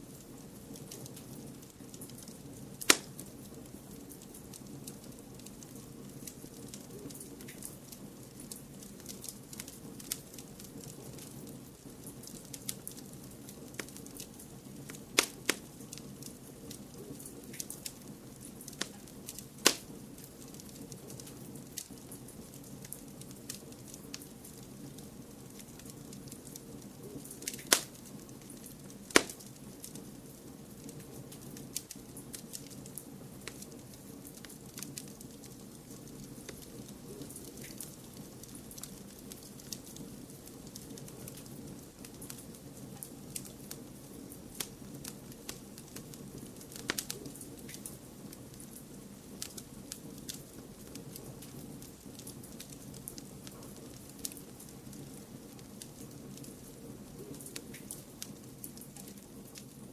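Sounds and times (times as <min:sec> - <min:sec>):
fireplace crackling: 0:00.0 - 0:59.9
sharp fire pops: 0:00.1 - 0:56.7.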